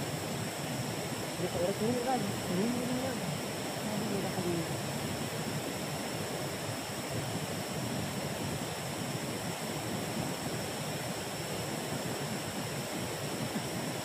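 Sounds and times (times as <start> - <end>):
river water flowing over rocks: 0.0 - 14.0.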